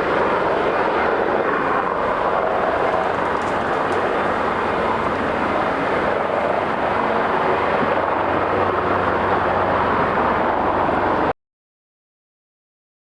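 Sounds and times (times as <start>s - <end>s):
helicopter turbine and rotor: 0.0s - 11.3s.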